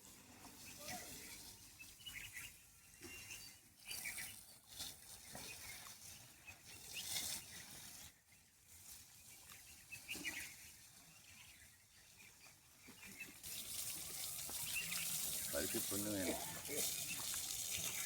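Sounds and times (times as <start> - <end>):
outdoor ambience: 0.0 - 18.0
bird chirps: 0.4 - 18.0.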